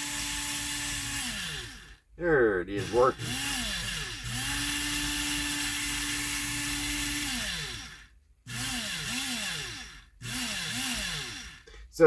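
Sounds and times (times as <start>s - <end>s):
small electric motor whirring: 0.0s - 2.0s, 2.7s - 11.7s.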